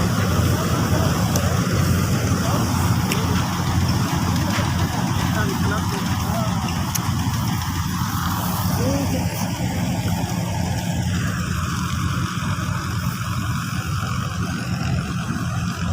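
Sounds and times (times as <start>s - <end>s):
diesel engine humming: 0.0s - 15.9s.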